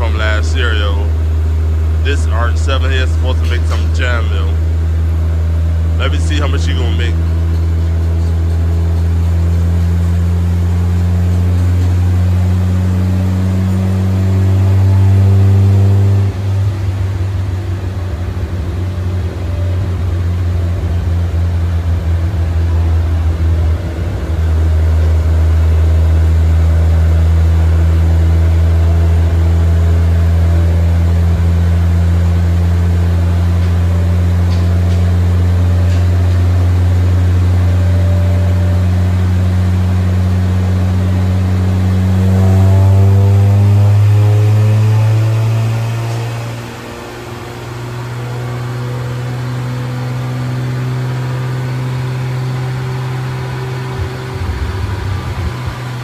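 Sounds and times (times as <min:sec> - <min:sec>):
rotary engine droning: 0:00.0 - 0:56.0.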